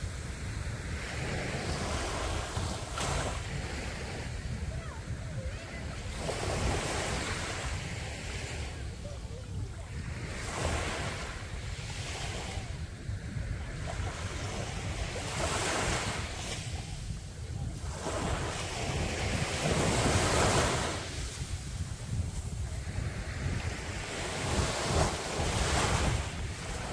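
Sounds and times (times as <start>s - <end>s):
sea waves breaking on beach: 0.0s - 26.9s
wind rumble on microphone: 0.0s - 26.9s.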